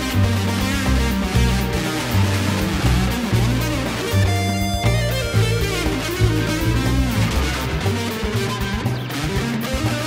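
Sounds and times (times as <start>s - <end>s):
electric guitar: 0.0s - 10.0s
electronic backing music: 0.0s - 10.0s
steady bass line: 0.0s - 10.0s.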